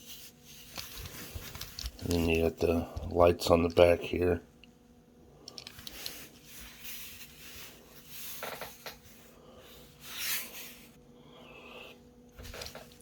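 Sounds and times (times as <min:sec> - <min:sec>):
rubbing and rustling handling: 0:00.0 - 0:04.4, 0:05.4 - 0:11.0, 0:12.3 - 0:13.0
faint steady hum: 0:00.0 - 0:13.0.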